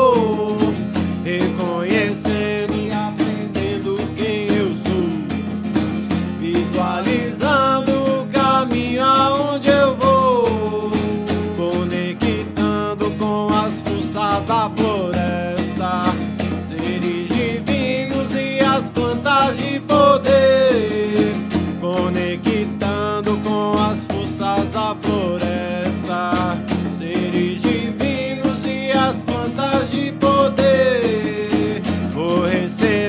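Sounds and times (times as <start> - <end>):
person singing wordless melody: 0.0 - 5.4, 6.4 - 33.0
acoustic guitar strumming: 0.0 - 33.0.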